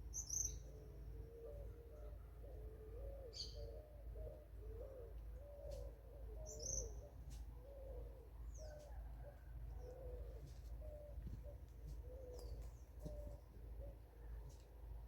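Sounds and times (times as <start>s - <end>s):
bird cooing: 0.1s - 14.6s.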